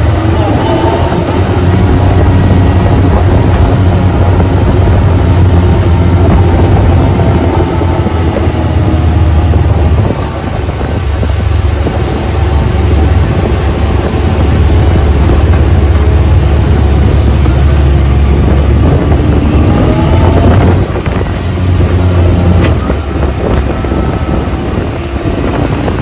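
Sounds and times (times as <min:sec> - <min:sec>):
off-road vehicle engine droning: 0:00.0 - 0:26.0
ride noise: 0:00.0 - 0:26.0.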